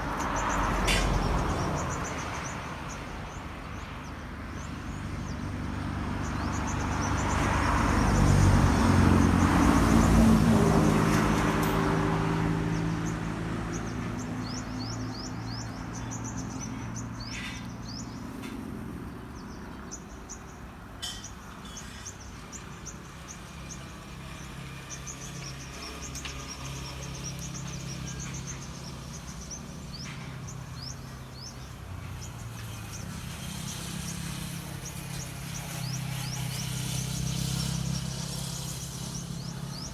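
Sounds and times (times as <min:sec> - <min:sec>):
small birds chirping: 0:00.0 - 0:11.7, 0:12.4 - 0:39.9
engine passing by: 0:00.0 - 0:39.9.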